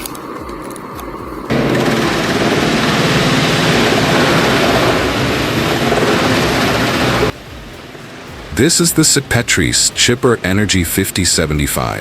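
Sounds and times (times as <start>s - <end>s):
dense rushing noise: 1.5s - 12.0s
heavy machinery engine noise: 1.5s - 12.0s.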